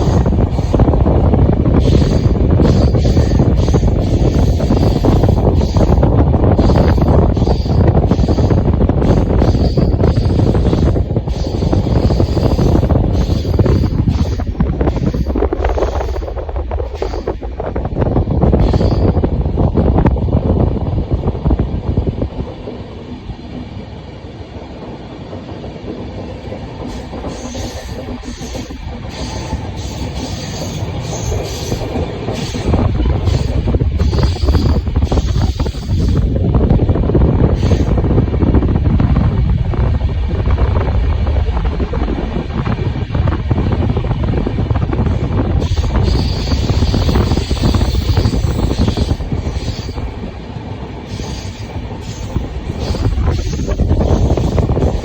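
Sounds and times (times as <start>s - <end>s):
wheels clattering over rails: 0.0s - 23.6s, 24.2s - 40.0s, 40.7s - 55.0s
train rumble: 0.0s - 55.0s
wind rushing over microphone: 0.0s - 55.0s.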